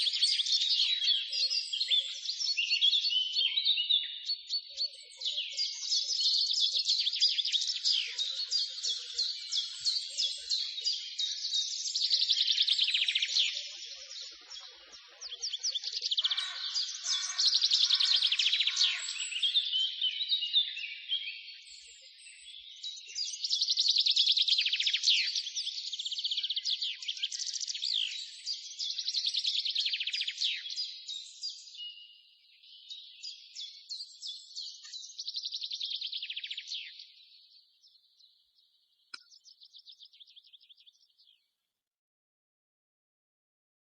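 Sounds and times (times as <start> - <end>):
songbirds chirping and trilling: 0.0 - 41.6.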